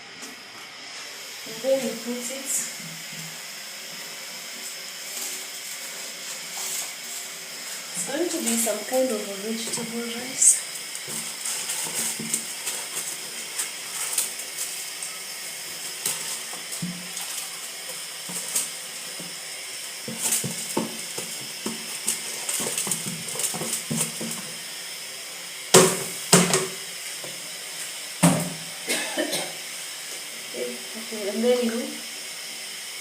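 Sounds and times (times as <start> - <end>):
stove hiss: 0.0 - 33.0.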